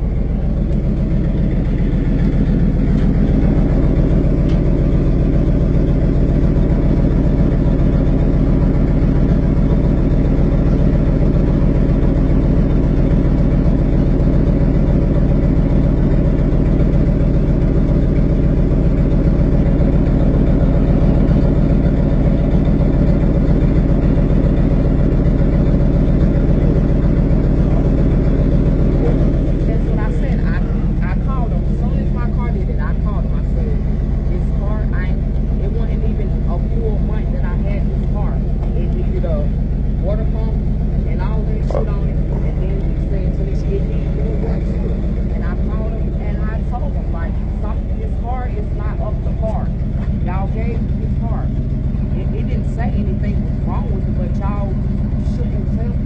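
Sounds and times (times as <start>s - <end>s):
truck engine droning: 0.0s - 56.0s.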